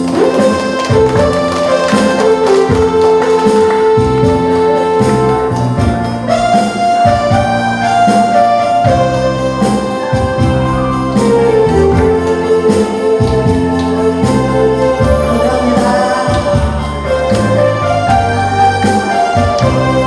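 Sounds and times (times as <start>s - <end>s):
keyboard melody in held notes: 0.0s - 20.0s
steady drum beat: 0.0s - 20.0s.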